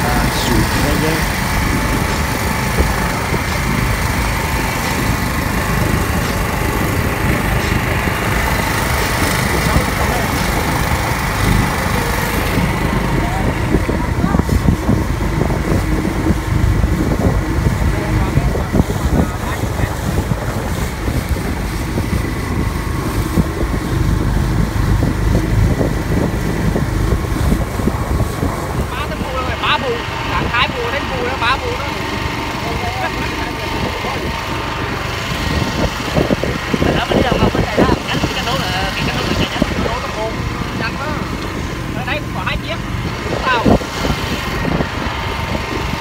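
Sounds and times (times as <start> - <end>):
outboard engine running: 0.0 - 46.0
wind on microphone: 0.0 - 46.0.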